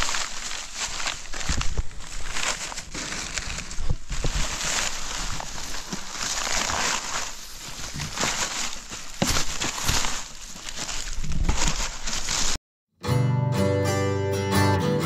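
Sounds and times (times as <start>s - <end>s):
litter rustling and crinkling: 0.0s - 12.6s.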